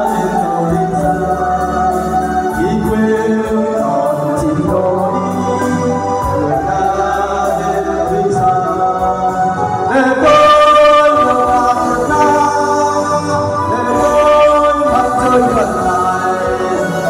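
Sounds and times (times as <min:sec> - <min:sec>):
choir singing held notes: 0:00.0 - 0:17.0.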